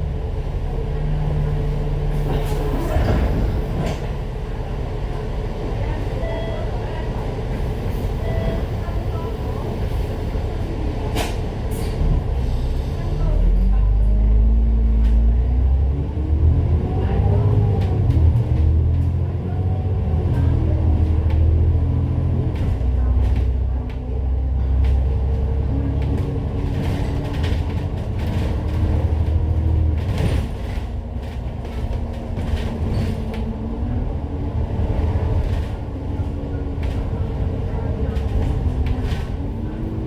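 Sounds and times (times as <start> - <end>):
bus body rattles: 0.0 - 15.6, 16.9 - 40.0
bus engine and road rumble: 0.0 - 40.0.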